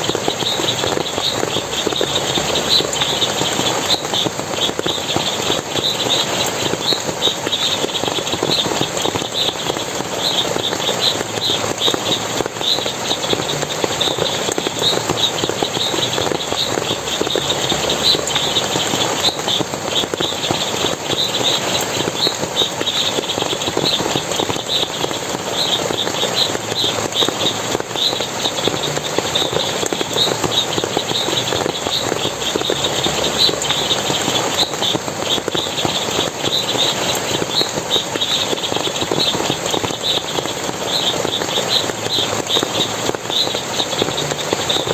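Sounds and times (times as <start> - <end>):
water splashing and running: 0.0 - 44.9.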